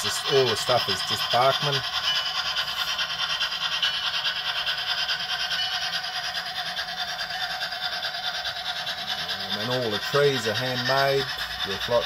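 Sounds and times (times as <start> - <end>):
model steam locomotive rasping: 0.0 - 12.0.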